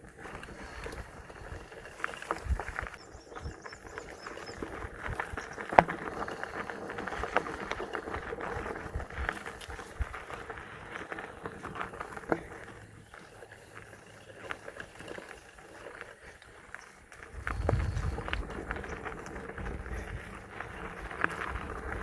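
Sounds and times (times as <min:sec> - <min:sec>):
bike rattling and knocking: 0:00.0 - 0:22.0
tyres crunching on dirt: 0:00.0 - 0:22.0.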